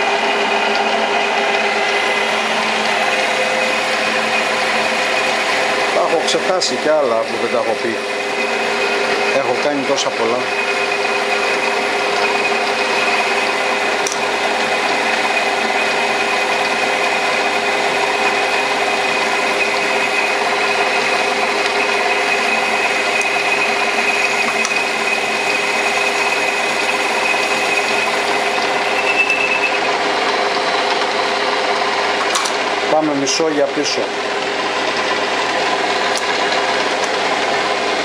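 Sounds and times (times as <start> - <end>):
metal lathe whirring and whining: 0.0 - 38.0.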